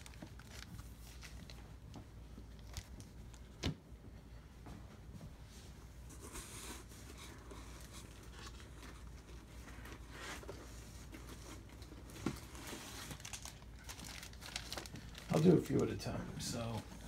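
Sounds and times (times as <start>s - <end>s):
packing material rustling: 0.0s - 3.5s, 6.6s - 17.0s.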